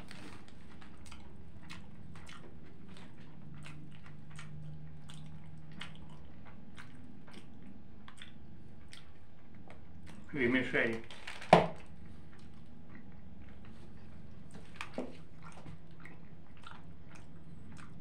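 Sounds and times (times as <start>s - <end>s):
person chewing food: 0.0s - 10.3s, 11.7s - 18.0s
low steady hum: 0.0s - 18.0s.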